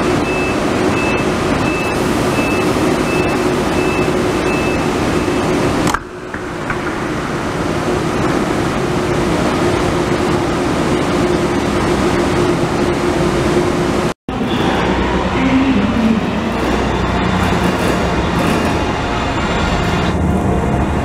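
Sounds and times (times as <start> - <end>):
train rolling in: 0.0 - 21.0
train whir and hum: 0.0 - 21.0.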